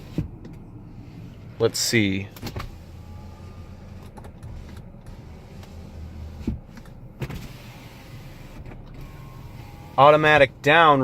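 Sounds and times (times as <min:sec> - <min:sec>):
power window motor running: 0:00.0 - 0:01.1, 0:02.4 - 0:11.0.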